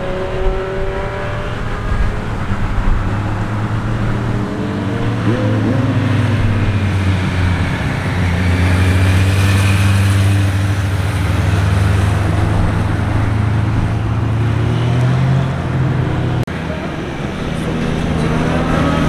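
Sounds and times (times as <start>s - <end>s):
motorcycle engines passing: 0.0s - 19.0s.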